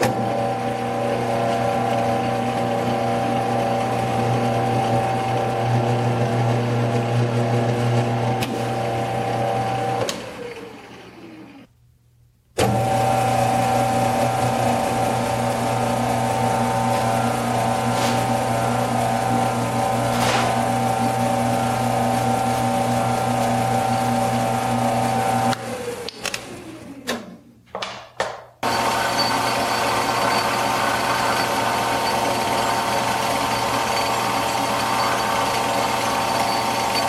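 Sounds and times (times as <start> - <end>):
metal lathe motor humming: 0.0 - 11.7, 12.6 - 26.2, 28.6 - 37.0.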